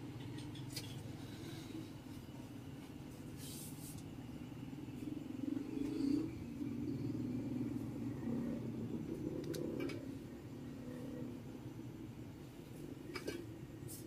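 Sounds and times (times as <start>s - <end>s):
low rumble and hum: 0.0s - 14.0s.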